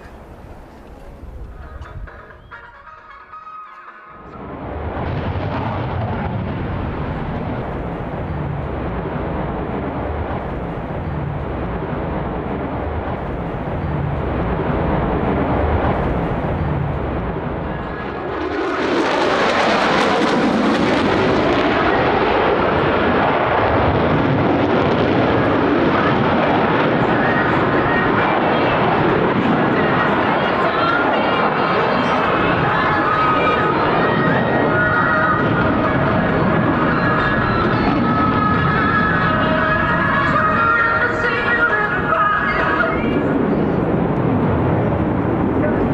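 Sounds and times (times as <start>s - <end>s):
jet engine roar: 0.0s - 45.9s.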